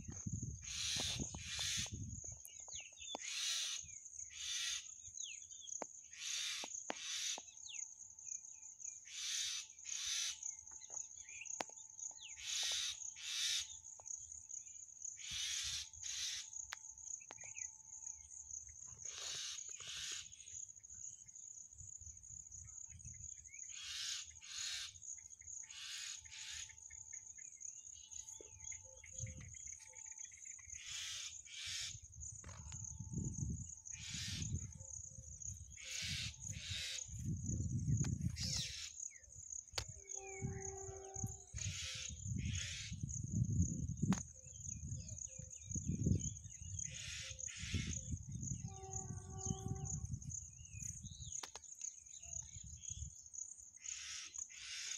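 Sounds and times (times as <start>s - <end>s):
birds harsh calls and chirps: 0.4s - 7.9s, 9.0s - 13.9s, 15.2s - 16.6s, 18.7s - 21.3s, 22.9s - 34.8s, 35.4s - 54.9s
high-pitched insect drone: 6.2s - 54.9s.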